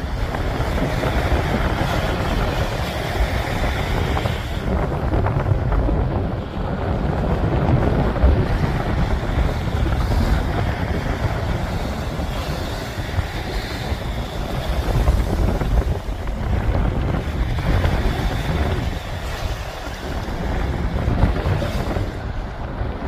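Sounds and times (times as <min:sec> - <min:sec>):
small waves breaking: 0:00.0 - 0:23.0
wind buffeting microphone: 0:00.0 - 0:23.0.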